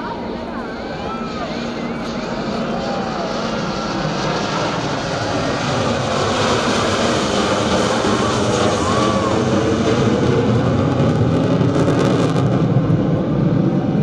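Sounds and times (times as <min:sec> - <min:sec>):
jet aircraft flying over: 0:00.0 - 0:14.0.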